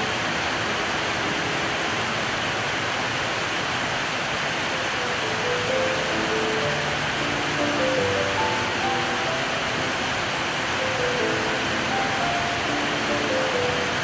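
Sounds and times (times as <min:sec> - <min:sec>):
rain on metal roofs: 0:00.0 - 0:14.0
water streaming off eaves: 0:00.0 - 0:14.0.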